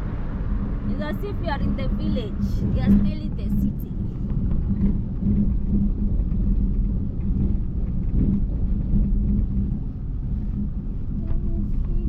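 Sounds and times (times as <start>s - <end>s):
car driving cabin rumble: 0.0s - 12.0s
constant low hum: 0.0s - 12.0s.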